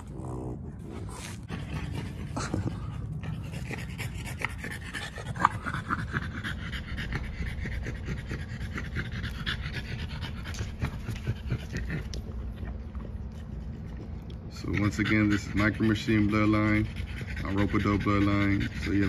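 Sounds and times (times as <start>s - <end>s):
puppy panting rapidly: 0.8s - 19.0s.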